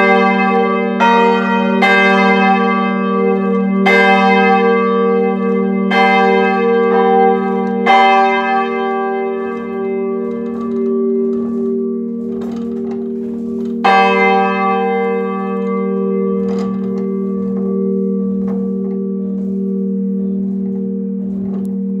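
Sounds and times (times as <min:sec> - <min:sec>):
church bell clapper strikes: 0:00.0 - 0:22.0
deep bell hum ringing: 0:00.0 - 0:22.0.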